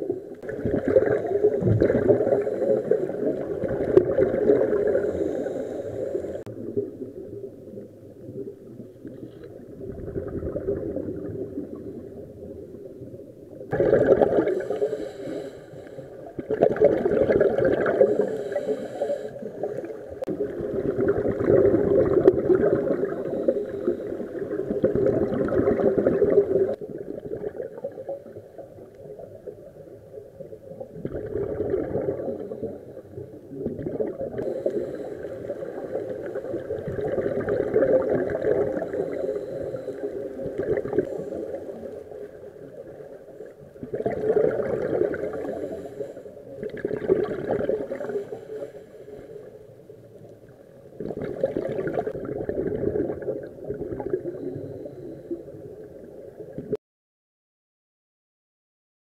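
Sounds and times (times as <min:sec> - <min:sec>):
underwater exhaust bubbles rushing: 0:00.0 - 0:48.7, 0:50.1 - 0:56.8.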